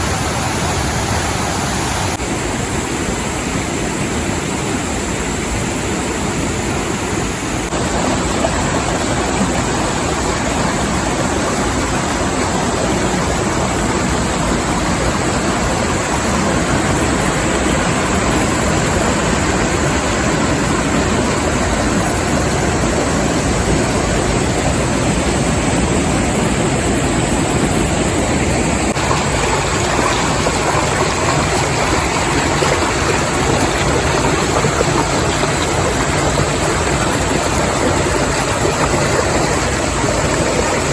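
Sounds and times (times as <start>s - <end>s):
water rushing in rocky river: 0.0s - 40.9s.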